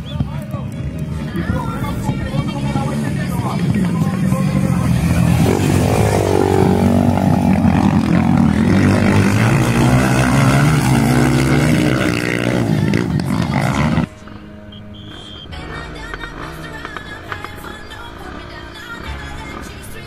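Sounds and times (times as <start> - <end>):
dirt bikes revving past: 0.0 - 20.0.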